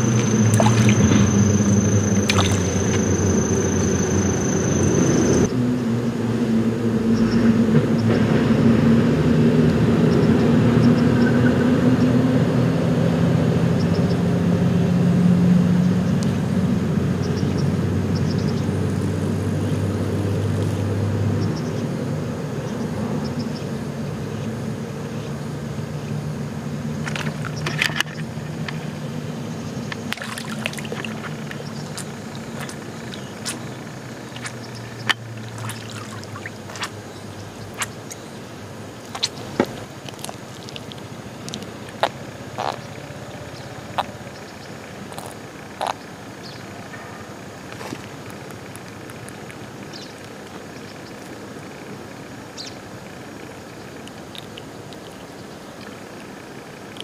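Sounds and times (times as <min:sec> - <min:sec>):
engine drone: 0:00.0 - 0:57.0.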